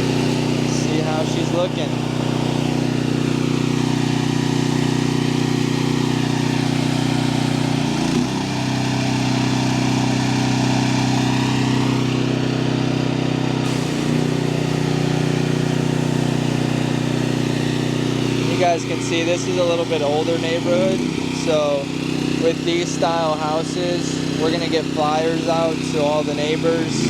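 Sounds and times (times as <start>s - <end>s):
pressure washer engine running: 0.0s - 27.0s.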